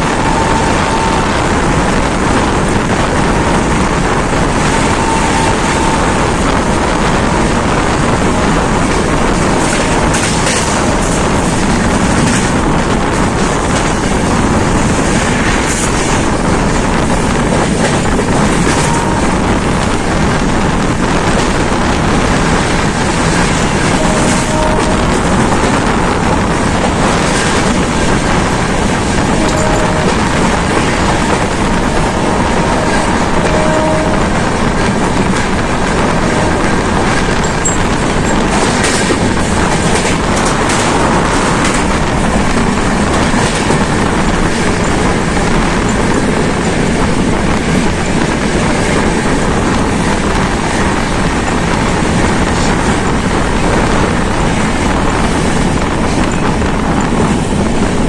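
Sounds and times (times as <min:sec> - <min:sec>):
coach rattling over bridge: 0:00.0 - 0:58.0
train wheels rumbling on rails: 0:00.0 - 0:58.0.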